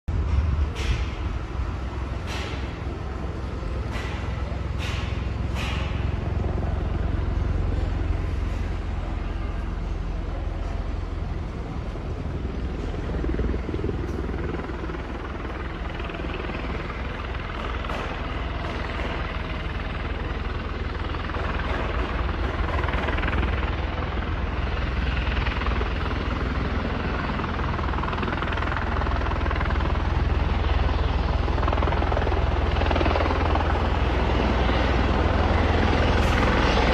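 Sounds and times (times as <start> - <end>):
helicopter rotor and engine: 0.1 - 36.9.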